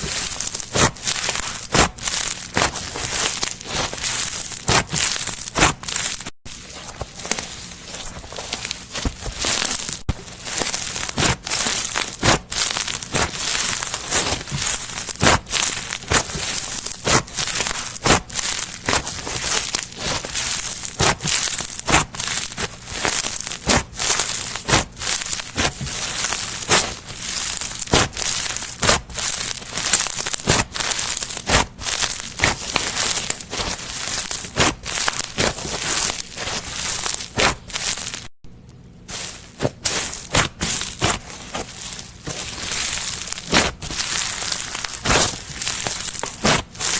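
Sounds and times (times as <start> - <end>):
slime crackling and popping: 0.0 - 38.3, 39.1 - 46.9.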